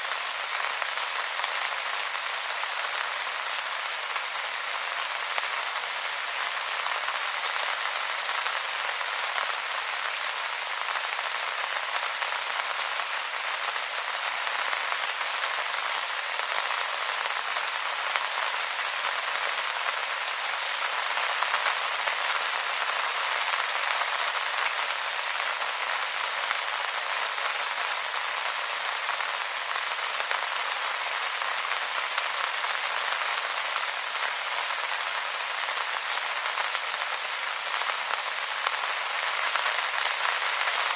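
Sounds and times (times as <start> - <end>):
rain pattering on leaves: 0.0 - 40.9.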